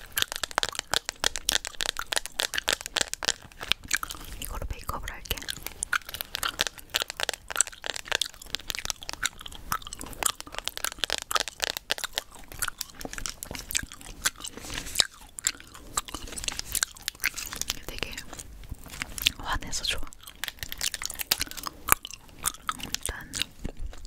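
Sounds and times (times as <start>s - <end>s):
gum chewing smacks and clicks: 0.0s - 24.0s.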